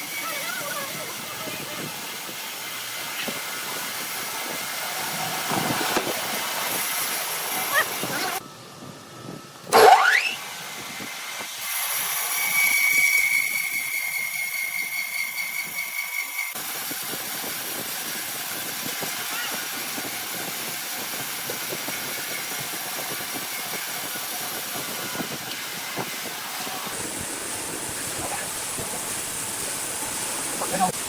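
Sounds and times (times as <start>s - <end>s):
saw whine: 0.0s - 31.0s
sawmill machinery running: 0.0s - 31.0s.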